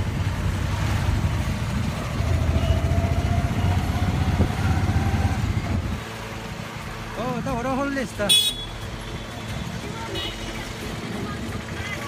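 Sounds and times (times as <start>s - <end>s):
rickshaw engine rumble: 0.0s - 12.0s
road noise: 0.0s - 12.0s.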